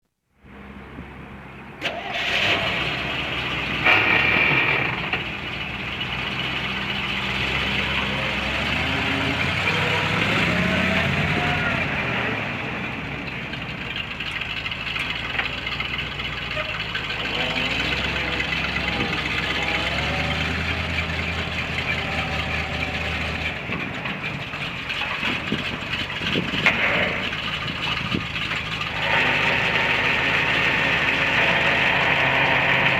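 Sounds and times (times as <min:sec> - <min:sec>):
truck engine idling: 0:00.4 - 0:32.9.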